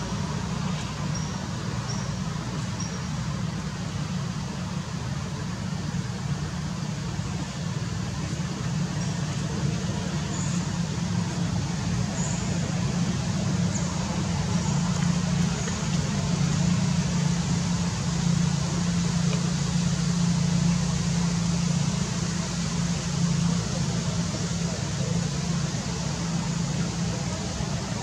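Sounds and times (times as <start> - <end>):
constant noise bed: 0.0 - 28.0
low mechanical drone: 0.0 - 28.0.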